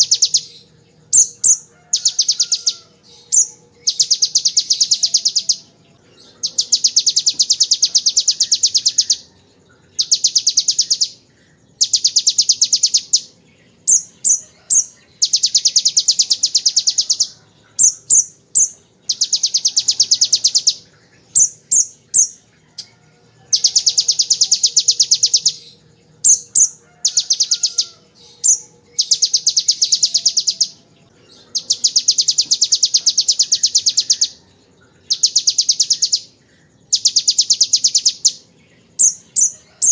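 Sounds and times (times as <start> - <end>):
bird singing buzzy trills: 0.0 - 39.9
sharp bird chirps: 0.0 - 39.9.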